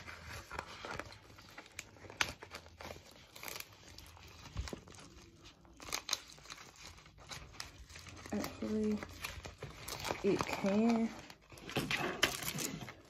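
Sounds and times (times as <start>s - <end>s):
plastic mailer bag crinkling: 0.0s - 13.0s.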